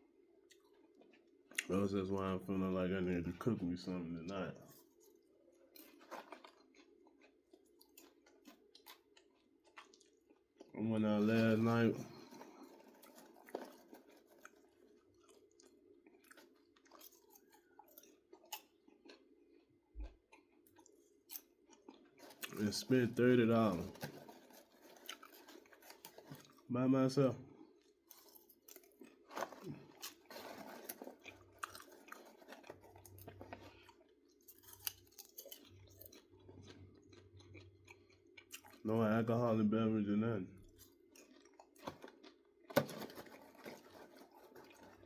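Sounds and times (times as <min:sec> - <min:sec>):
chewing popcorn: 0:00.3 - 0:03.9, 0:04.6 - 0:39.4, 0:40.6 - 0:45.0.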